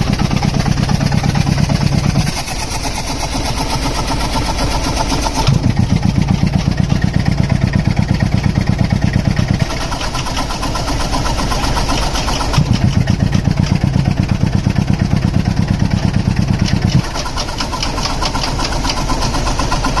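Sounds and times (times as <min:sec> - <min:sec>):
compressor pulsing: 0:00.0 - 0:20.0.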